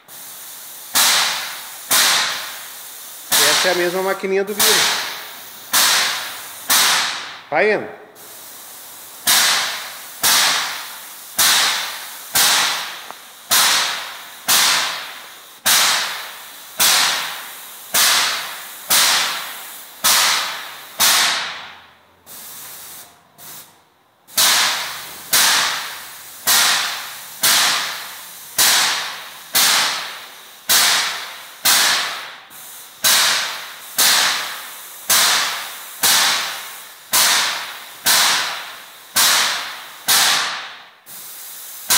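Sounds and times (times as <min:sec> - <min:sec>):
paint sprayer pump hissing: 0:00.0 - 0:07.4, 0:08.2 - 0:21.6, 0:24.4 - 0:40.4, 0:41.0 - 0:41.9.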